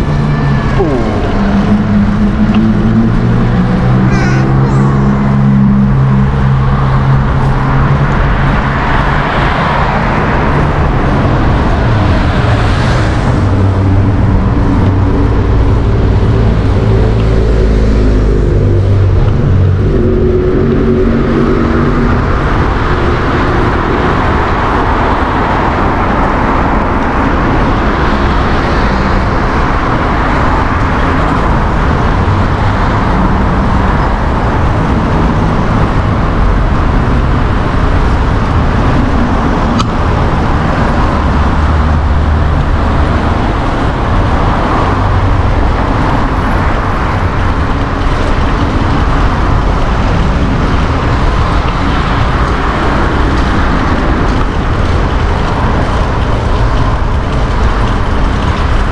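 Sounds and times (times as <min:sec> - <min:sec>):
motor vehicles passing: 0:00.0 - 0:58.9
traffic rumble: 0:00.0 - 0:58.9.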